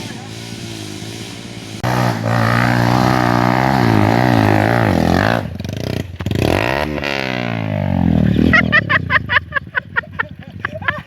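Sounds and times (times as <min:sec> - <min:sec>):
motorcycle engine revving hard: 0:00.0 - 0:11.0.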